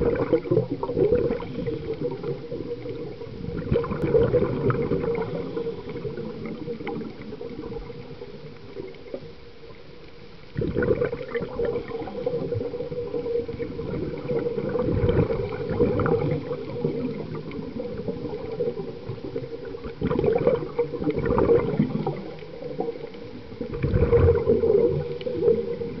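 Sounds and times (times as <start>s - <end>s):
regulator bubbles gurgling underwater: 0.0s - 26.0s.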